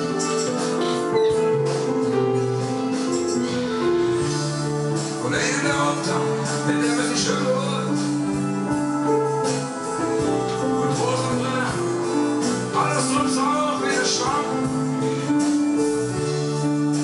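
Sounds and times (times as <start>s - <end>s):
keyboard chords and melody: 0.0s - 17.0s.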